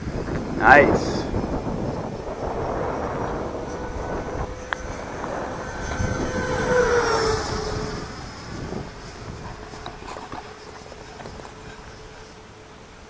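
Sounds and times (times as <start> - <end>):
model plane whine flying past: 0.0 - 13.0.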